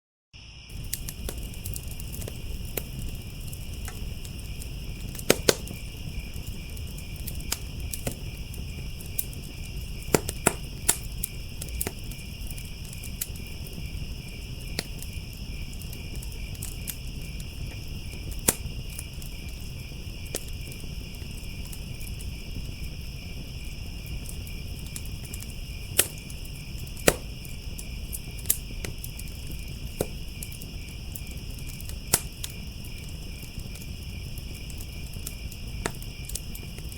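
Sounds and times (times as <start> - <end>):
crickets chirping: 0.4 - 36.9
wood fire crackling and popping: 0.6 - 36.9.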